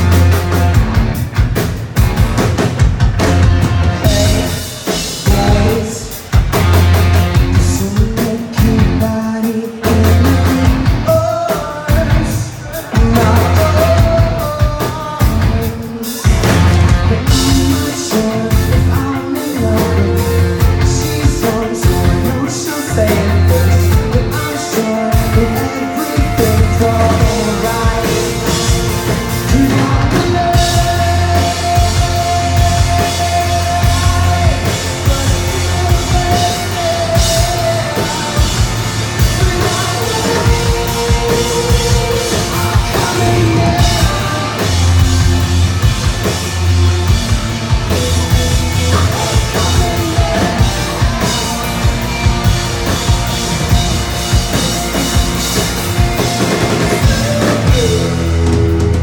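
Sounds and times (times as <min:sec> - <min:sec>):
distorted guitars: 0:00.0 - 0:59.0
drum kit: 0:00.0 - 0:59.0
live rock band playing: 0:00.0 - 0:59.0
person singing: 0:03.9 - 0:45.6, 0:46.2 - 0:59.0.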